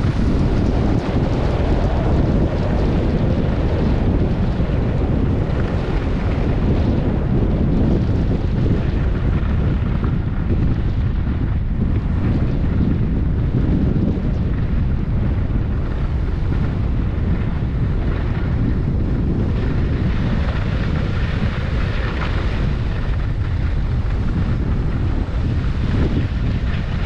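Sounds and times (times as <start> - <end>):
wind blowing across microphone: 0.0 - 27.0.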